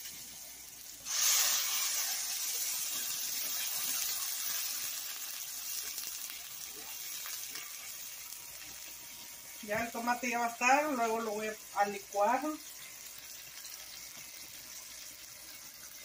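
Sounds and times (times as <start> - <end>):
water sizzling in a hot pan: 0.0 - 16.0.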